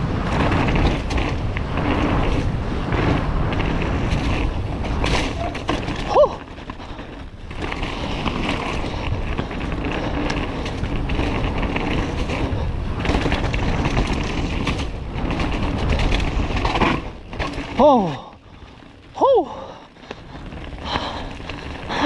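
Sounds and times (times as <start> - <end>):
bike tyres rumbling and rattling: 0.0 - 22.0
wind noise on microphone: 0.0 - 22.0.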